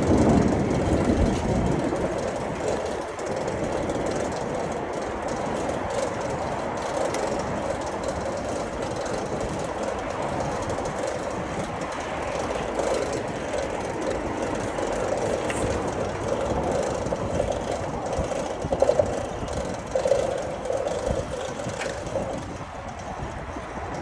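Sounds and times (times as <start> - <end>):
moving vehicle rumbling and rattling: 0.0 - 24.0.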